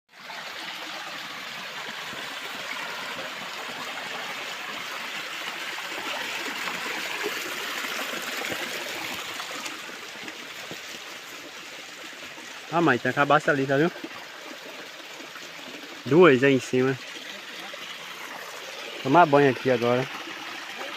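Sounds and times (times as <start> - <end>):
small waterfall splashing: 0.1 - 20.9.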